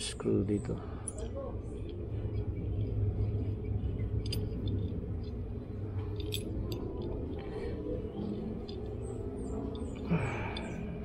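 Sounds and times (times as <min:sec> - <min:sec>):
steady low hum: 0:00.0 - 0:11.0
small metallic clicks and clinks: 0:01.0 - 0:11.0.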